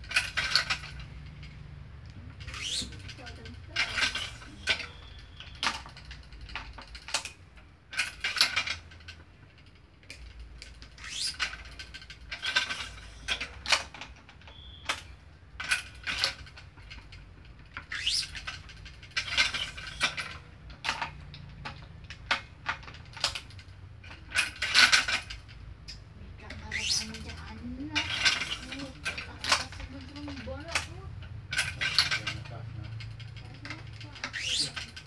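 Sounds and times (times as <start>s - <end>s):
stringing machine clicks: 0.0s - 35.0s.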